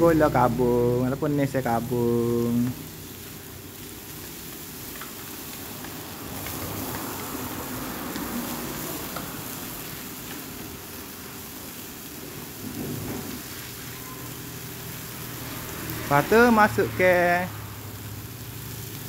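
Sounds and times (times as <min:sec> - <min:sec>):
meat sizzling in a wok: 0:00.0 - 0:19.0.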